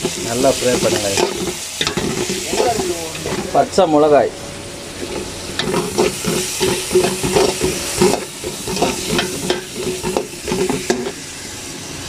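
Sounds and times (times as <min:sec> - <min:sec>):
ladle scraping and knocking pot: 0:00.0 - 0:03.6, 0:05.0 - 0:11.2
onions sizzling in hot oil: 0:00.0 - 0:12.0.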